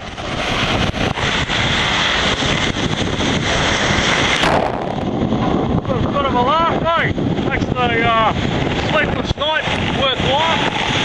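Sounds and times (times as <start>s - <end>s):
water rushing past hull: 0.0s - 11.0s
wind buffeting microphone: 0.0s - 11.0s.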